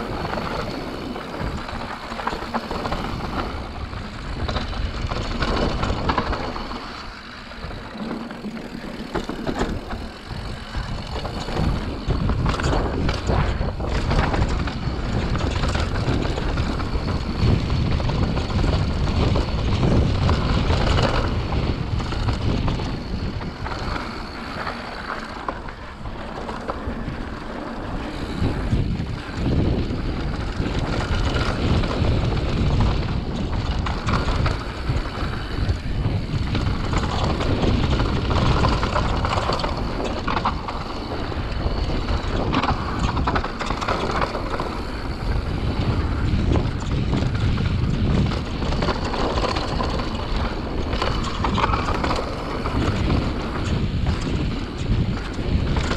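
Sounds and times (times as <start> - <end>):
bike chattering over bumps: 0.0 - 55.9
tyres rolling over dirt trail: 0.0 - 55.9
wind buffeting microphone: 0.0 - 55.9.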